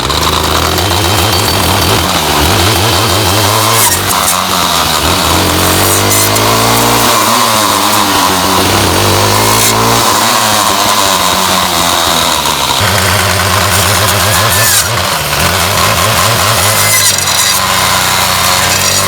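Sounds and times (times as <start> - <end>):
two-stroke trimmer engine: 0.0 - 19.0.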